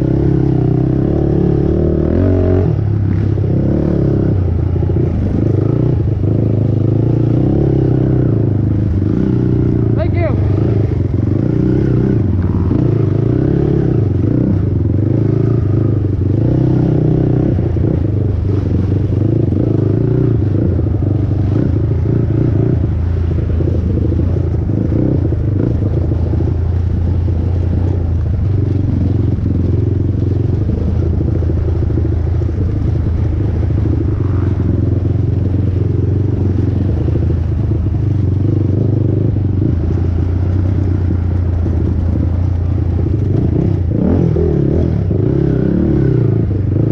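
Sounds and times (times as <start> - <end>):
quad bike engine running hard: 0.0 - 46.9.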